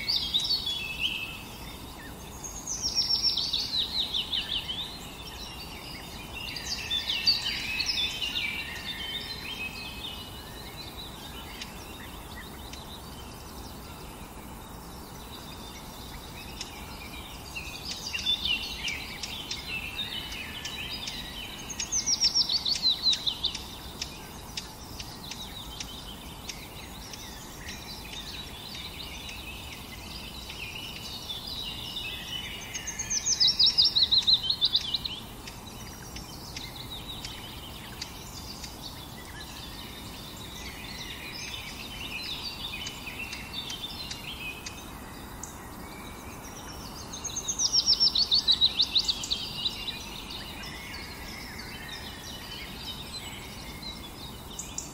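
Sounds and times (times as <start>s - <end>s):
birds chirping: 0.0s - 54.9s
steady background hiss: 0.0s - 54.9s.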